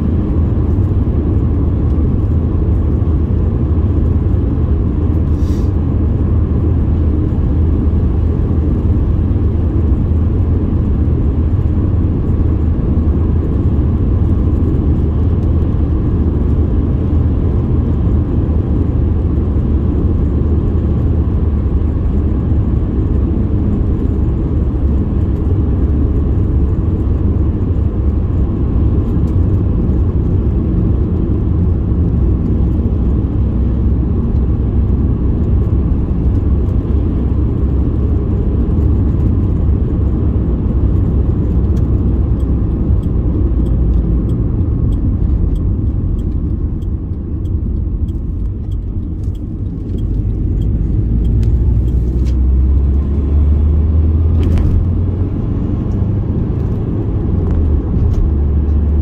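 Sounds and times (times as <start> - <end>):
road vehicle rumbling: 0.0 - 59.0.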